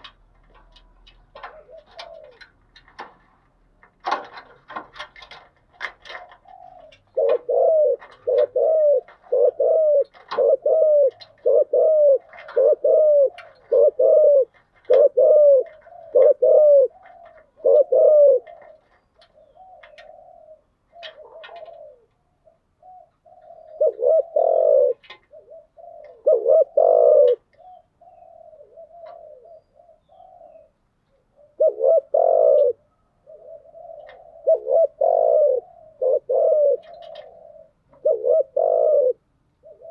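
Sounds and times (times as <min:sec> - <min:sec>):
dove cooing: 0:00.0 - 0:03.2, 0:04.0 - 0:39.9.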